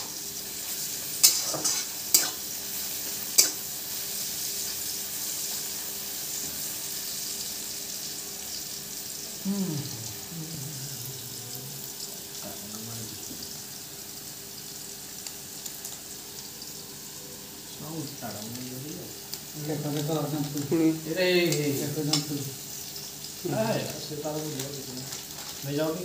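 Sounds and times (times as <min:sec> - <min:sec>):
vegetables sizzling in hot oil: 0:00.0 - 0:26.0.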